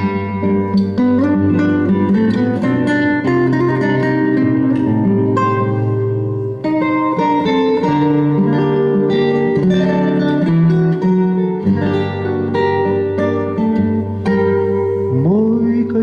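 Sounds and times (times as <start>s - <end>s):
plucked-string accompaniment: 0.0s - 16.0s.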